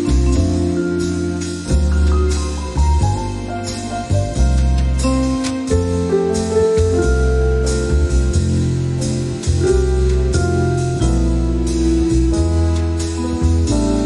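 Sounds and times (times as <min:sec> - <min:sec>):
background music with steady beat: 0:00.0 - 0:14.0.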